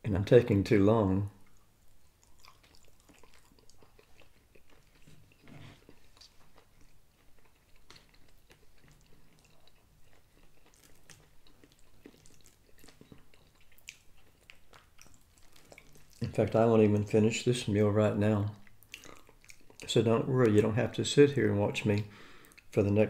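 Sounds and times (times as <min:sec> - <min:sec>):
close-up chewing food: 0:01.4 - 0:17.6, 0:18.5 - 0:20.7, 0:21.8 - 0:22.8.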